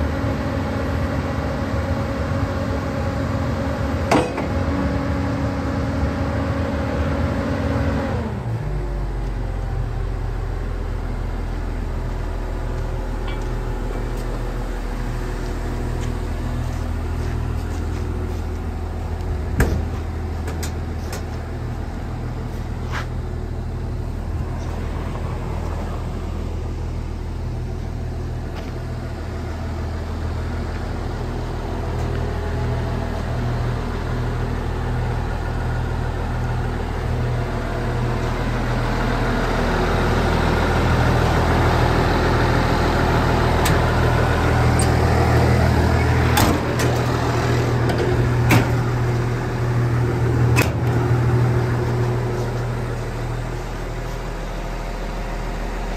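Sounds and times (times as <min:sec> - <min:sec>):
diesel engine idling: 0:00.0 - 0:55.9.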